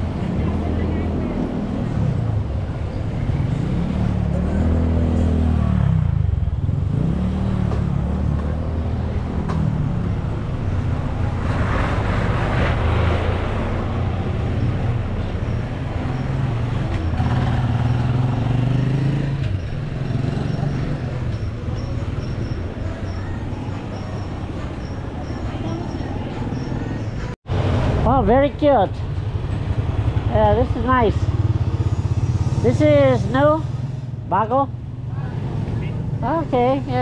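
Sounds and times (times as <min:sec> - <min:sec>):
small motorcycle engines passing: 0:00.0 - 0:28.0, 0:29.2 - 0:37.0
street traffic noise: 0:00.0 - 0:37.0.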